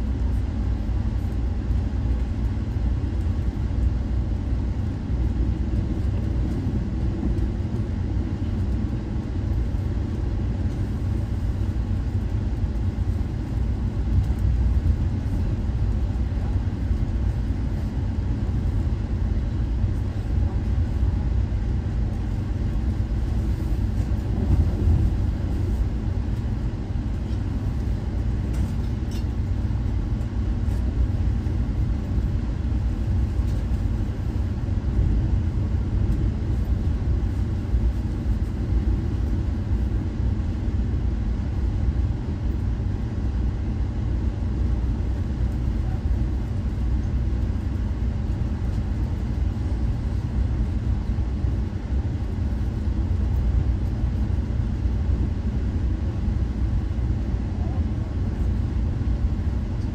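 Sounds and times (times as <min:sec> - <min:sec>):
passenger train rumble: 0:00.0 - 0:59.9.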